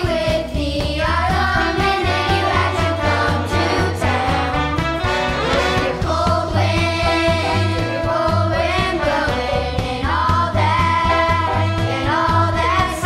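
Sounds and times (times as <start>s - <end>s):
children's choir singing: 0.0s - 13.0s
instrumental accompaniment: 0.0s - 13.0s
pulsing bass beat: 0.0s - 13.0s.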